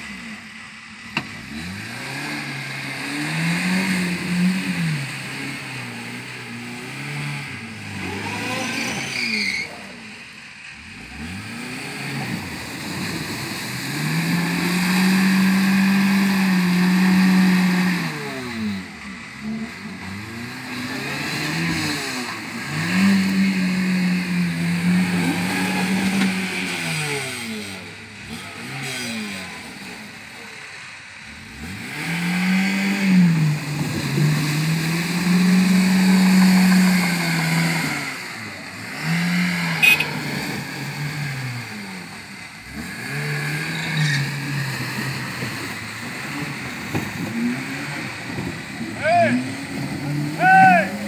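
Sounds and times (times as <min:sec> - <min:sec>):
car engine revving: 0:00.0 - 0:51.0
wheels churning water: 0:04.3 - 0:31.7, 0:33.4 - 0:51.0.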